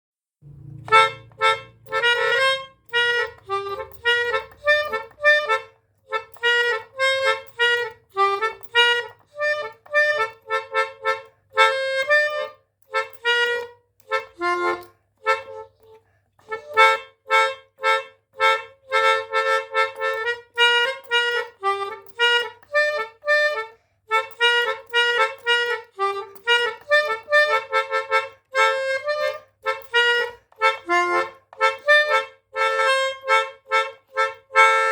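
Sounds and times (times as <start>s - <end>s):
melodica playing short notes: 0.4s - 34.9s.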